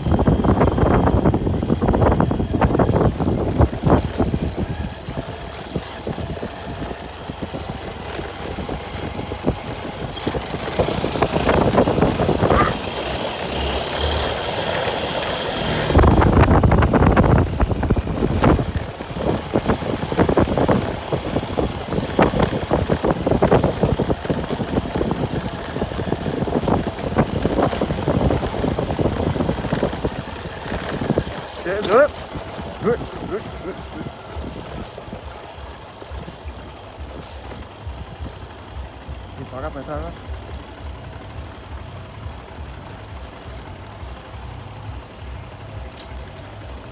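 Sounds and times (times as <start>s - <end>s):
knocks and rattles: 0.0s - 46.9s
vehicle engine and road noise: 0.0s - 46.9s.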